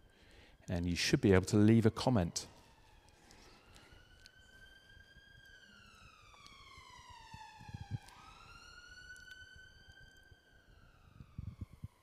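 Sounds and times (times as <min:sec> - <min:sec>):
faint wailing siren: 0:00.0 - 0:12.0.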